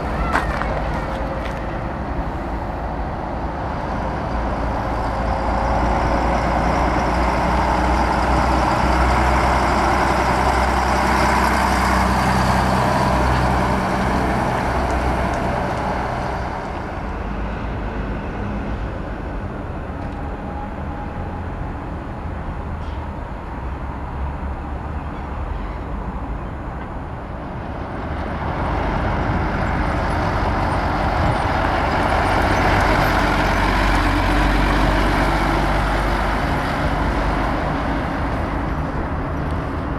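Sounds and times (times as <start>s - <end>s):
heavy diesel trucks driving past: 0.0s - 39.9s.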